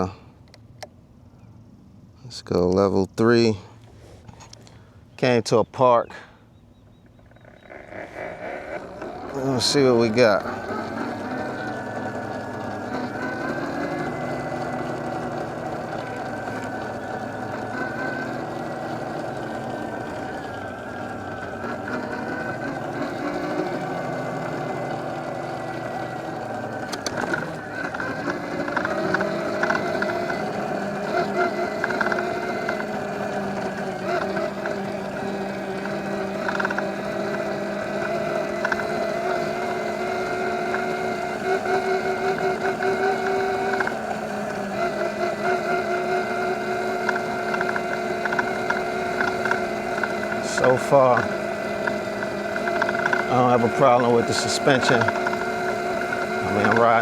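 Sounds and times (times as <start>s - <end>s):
electric motor whining: 0.0s - 1.5s, 2.5s - 57.0s.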